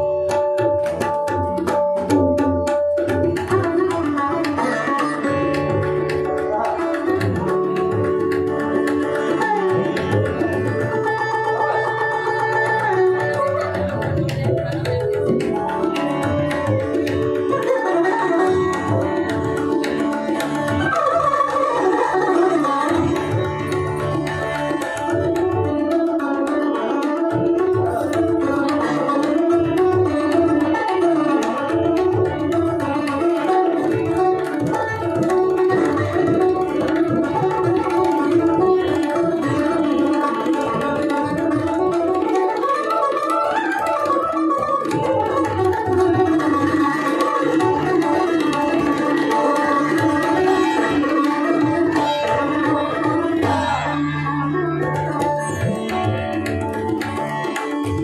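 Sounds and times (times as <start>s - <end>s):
sitar melody: 0.0s - 58.0s
tabla drumming: 0.0s - 58.0s.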